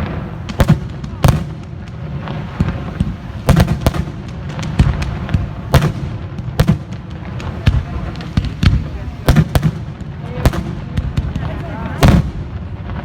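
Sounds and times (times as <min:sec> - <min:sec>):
firework pops and crackles: 0:00.0 - 0:13.0
fireworks exploding: 0:00.0 - 0:13.0.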